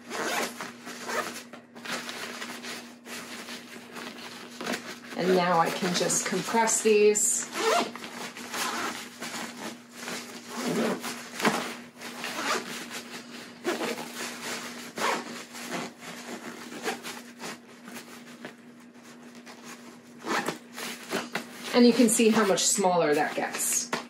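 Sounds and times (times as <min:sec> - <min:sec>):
zipper being pulled: 0:00.0 - 0:18.5, 0:19.4 - 0:22.6.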